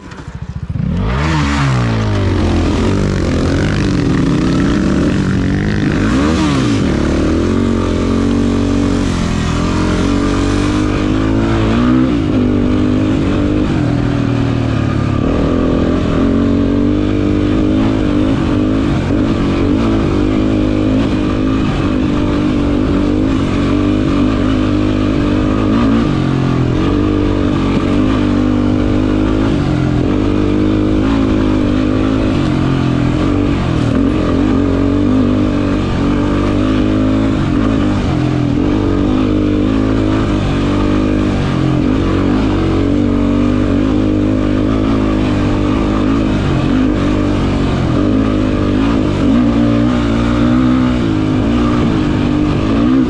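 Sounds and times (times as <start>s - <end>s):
quad engine revving: 0.0s - 53.0s.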